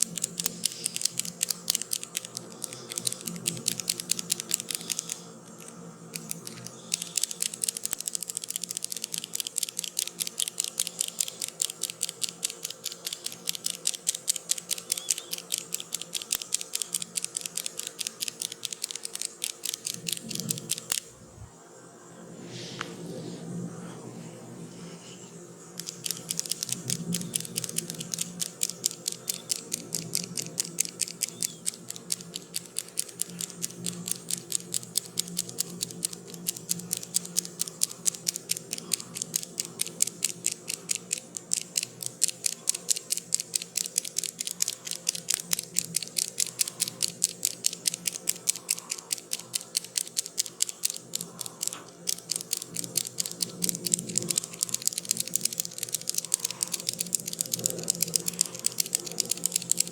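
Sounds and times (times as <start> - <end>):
rapid even clicking: 0.0 - 21.2, 25.8 - 59.9.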